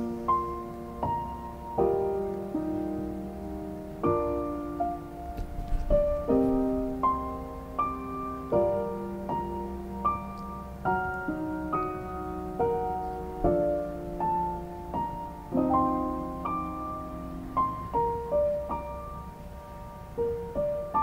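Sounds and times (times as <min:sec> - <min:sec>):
piano piece: 0:00.0 - 0:21.0.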